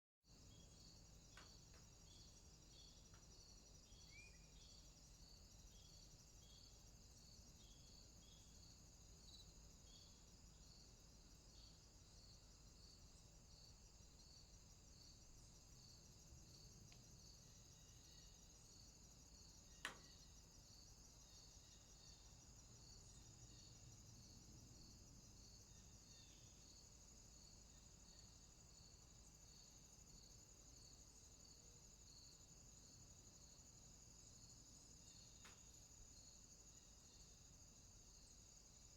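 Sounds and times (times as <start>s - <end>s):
crickets chirping: 0.3s - 38.9s
high insect trill: 0.3s - 38.9s.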